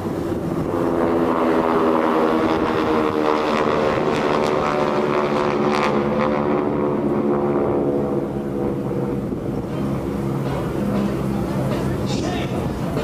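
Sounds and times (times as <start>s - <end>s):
wind noise: 0.0s - 11.2s, 11.8s - 13.0s
engine drone: 0.0s - 13.0s.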